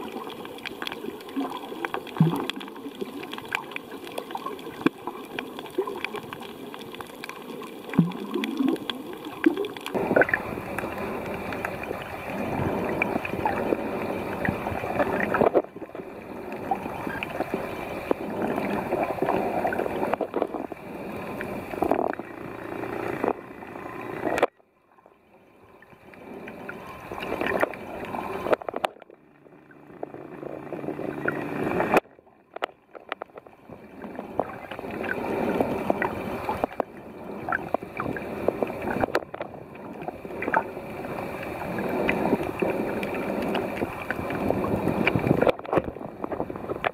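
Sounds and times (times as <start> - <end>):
underwater sloshing and gurgling: 0.0 - 46.9.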